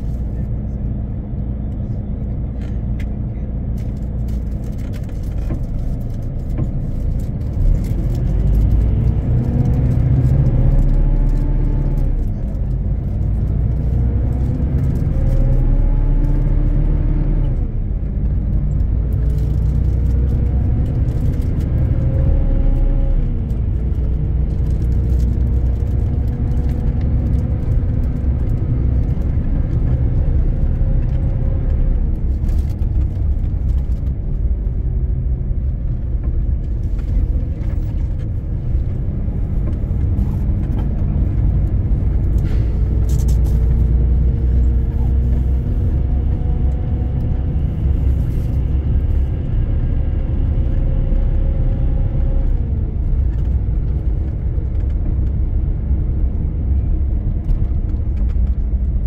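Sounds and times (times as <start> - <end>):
bus diesel engine accelerating: 0.0 - 59.0
constant low rumble: 0.0 - 59.0.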